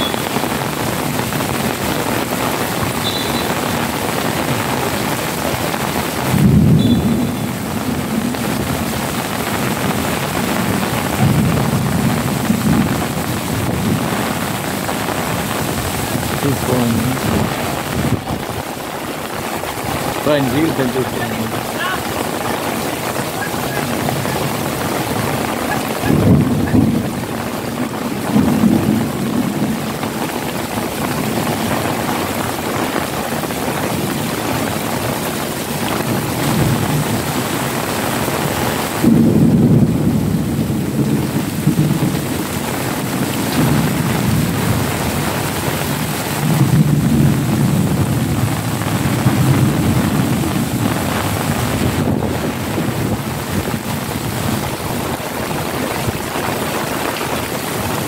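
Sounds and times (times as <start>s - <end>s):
heavy rain: 0.0s - 58.0s
thunder rolling: 0.0s - 58.0s.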